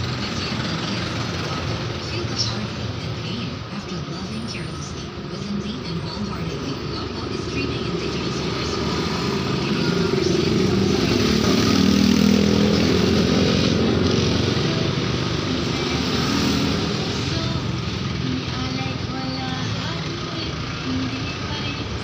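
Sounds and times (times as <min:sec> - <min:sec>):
motor vehicle engine: 0:00.0 - 0:22.0.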